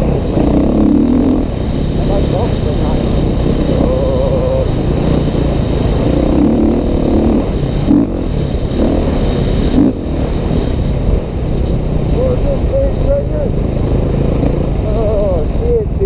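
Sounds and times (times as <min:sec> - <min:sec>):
dirt bike engine revving: 0:00.0 - 0:15.4.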